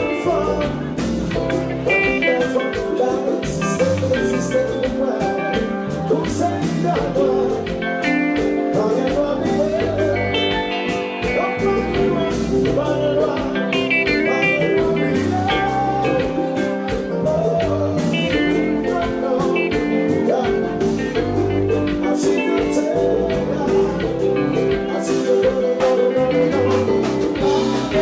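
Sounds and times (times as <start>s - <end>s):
drum beat: 0.0s - 28.0s
guitar: 0.0s - 28.0s
man singing: 0.0s - 28.0s.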